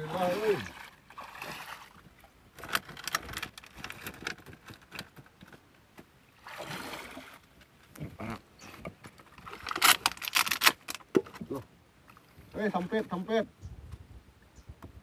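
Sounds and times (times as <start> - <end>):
water splashing and trickling: 0.0 - 13.5.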